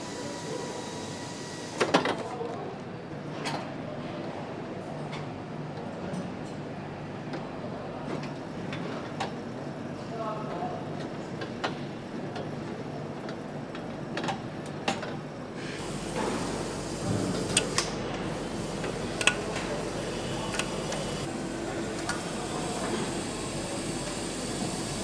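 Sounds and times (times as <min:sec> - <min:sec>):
steady background noise: 0:00.0 - 0:25.0.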